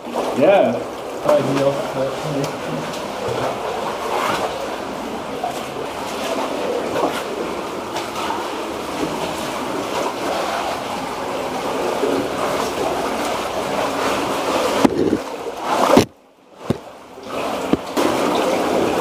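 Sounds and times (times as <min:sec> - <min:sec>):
water rushing and sloshing: 0:00.0 - 0:19.0.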